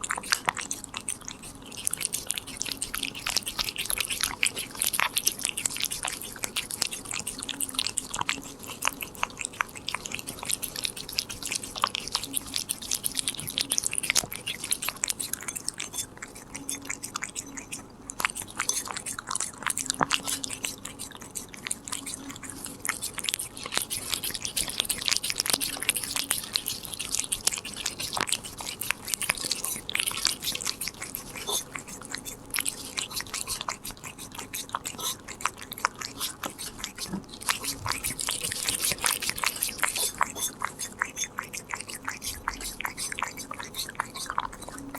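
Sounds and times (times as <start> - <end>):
cat crunching a treat: 0.0 - 44.9.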